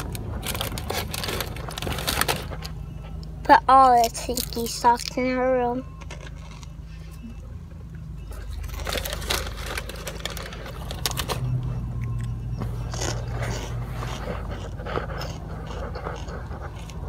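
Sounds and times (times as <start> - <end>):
low rumble inside car cabin: 0.0 - 17.0.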